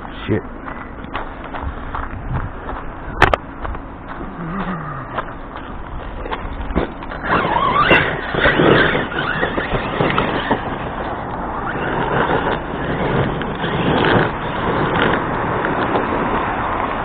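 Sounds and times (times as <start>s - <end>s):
tyres crunching over rocky ground: 0.0s - 17.0s
electric motor whining: 1.4s - 17.0s.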